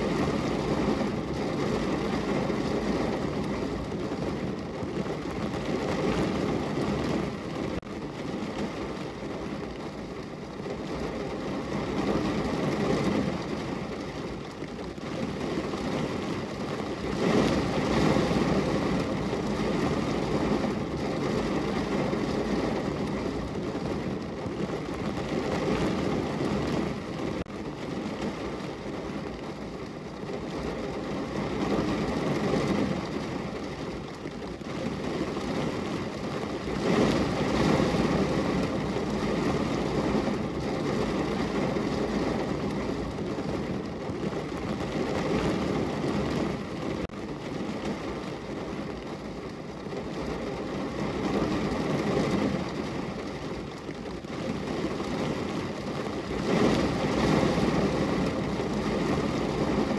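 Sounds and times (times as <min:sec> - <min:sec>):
rain falling on a window: 0:00.0 - 0:59.9.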